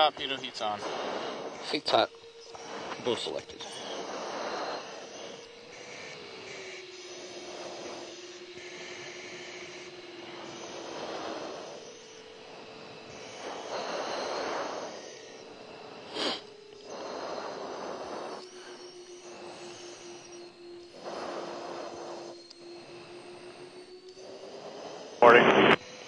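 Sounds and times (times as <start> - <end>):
breathing through oxygen mask: 0.0 - 26.0
intercom hum: 0.0 - 26.0.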